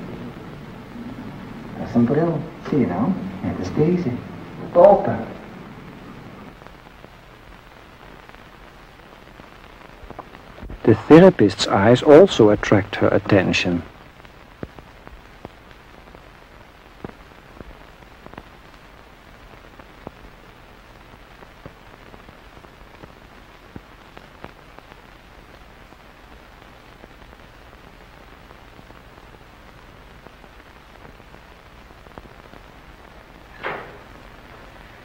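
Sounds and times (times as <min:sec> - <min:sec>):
film soundtrack surface noise: 0:00.0 - 0:35.0.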